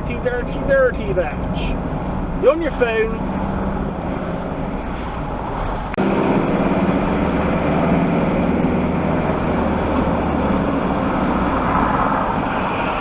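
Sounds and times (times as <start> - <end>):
van engine and road noise: 0.0 - 13.0.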